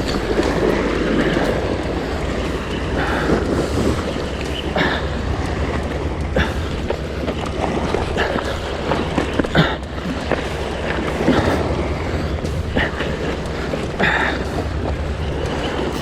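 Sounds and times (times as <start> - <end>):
waves washing against rocks: 0.0 - 16.0
wind buffeting microphone: 0.0 - 16.0.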